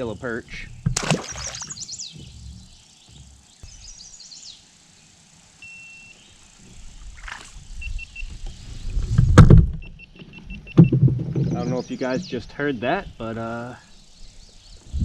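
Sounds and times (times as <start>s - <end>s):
birds chirping: 0.0s - 8.8s, 9.9s - 15.0s.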